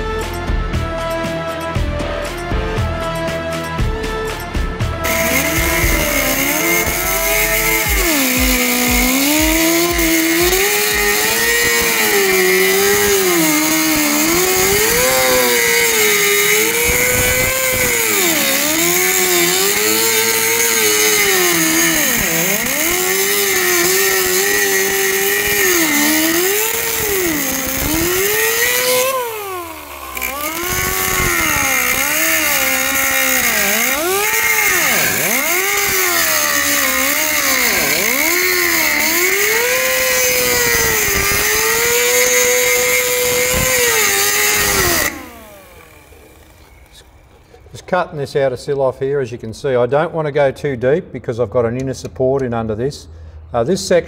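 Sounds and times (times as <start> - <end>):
power tool cutting steel: 0.0 - 47.5.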